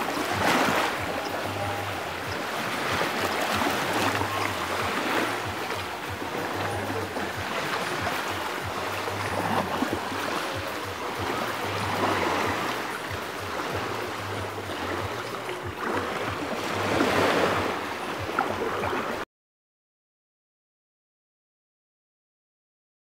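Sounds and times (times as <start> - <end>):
ocean surf washing on beach: 0.0 - 19.2.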